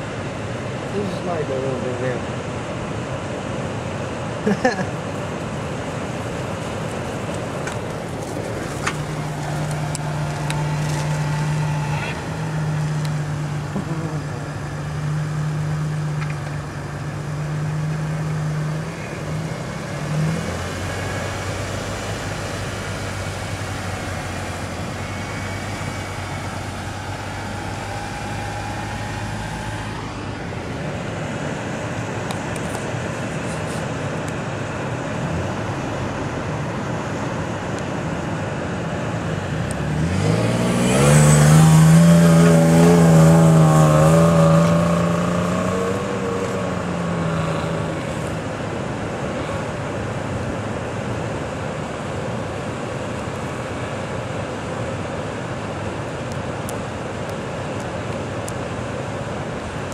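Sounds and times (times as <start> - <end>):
truck engine droning: 0.0 - 59.9.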